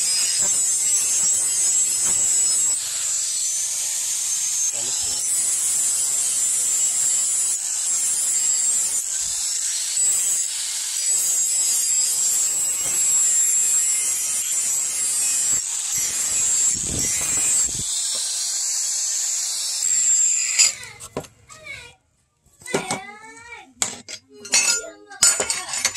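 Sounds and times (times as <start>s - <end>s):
angle grinder grinding metal: 0.0s - 21.3s, 23.8s - 25.9s.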